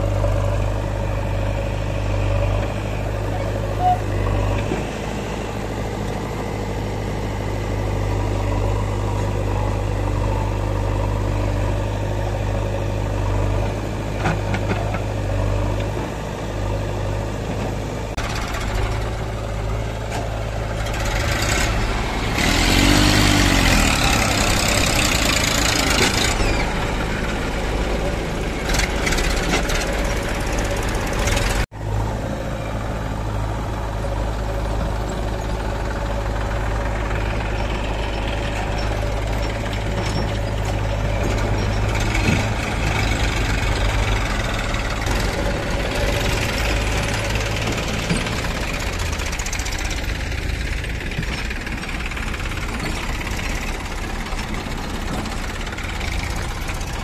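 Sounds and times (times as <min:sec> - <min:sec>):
diesel engines humming: 0:00.0 - 0:57.0.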